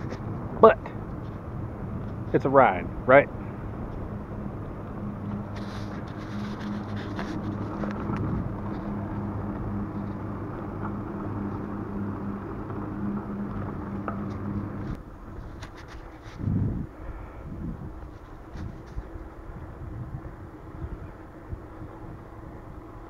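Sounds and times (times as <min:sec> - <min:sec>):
bicycle tyres rolling on asphalt: 0:00.0 - 0:23.0
low hum: 0:00.0 - 0:23.0.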